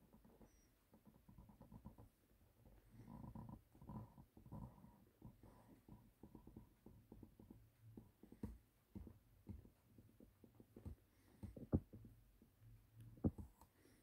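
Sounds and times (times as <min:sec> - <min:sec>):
faint low thumps and knocks: 0:00.1 - 0:13.9.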